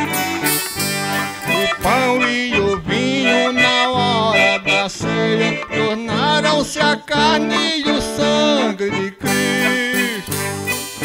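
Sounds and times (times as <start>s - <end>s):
accordion playing melody: 0.0s - 11.0s.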